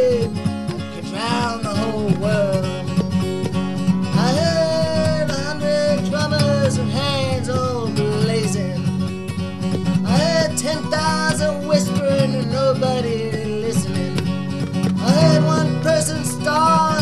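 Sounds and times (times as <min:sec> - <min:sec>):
man singing: 0:00.0 - 0:03.2, 0:04.0 - 0:09.0, 0:09.9 - 0:17.0
strummed acoustic guitar: 0:00.0 - 0:17.0.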